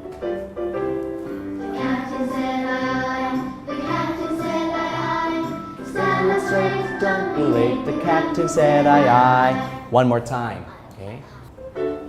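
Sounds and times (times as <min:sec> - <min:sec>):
children's song with sung vocals: 0:01.5 - 0:11.6.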